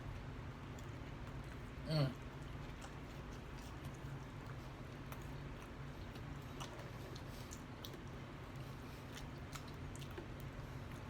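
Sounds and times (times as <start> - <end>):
steady low hum: 0.0 - 11.0
person chewing: 0.2 - 11.0.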